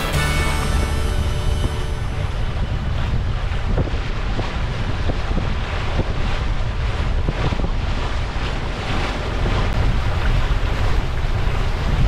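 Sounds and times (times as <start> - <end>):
water splashing along hull: 0.0 - 12.0
wind buffeting microphone: 0.0 - 12.0.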